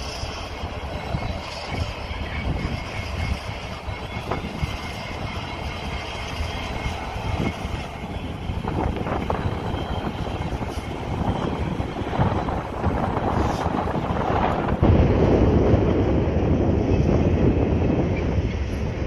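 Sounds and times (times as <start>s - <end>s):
diesel locomotive engine running: 0.0s - 19.0s
wheels clanking on rails: 0.0s - 19.0s.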